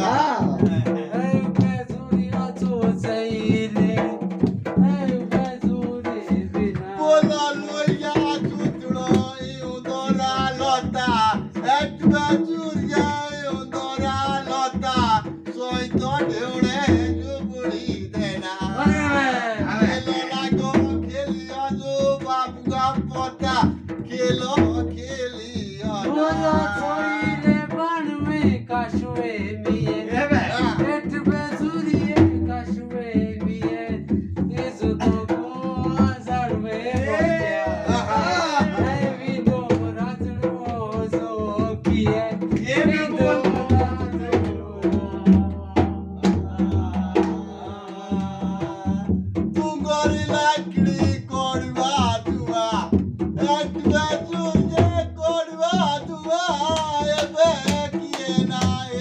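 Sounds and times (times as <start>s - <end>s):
drums: 0.0s - 59.0s
folk song singing: 0.0s - 59.0s.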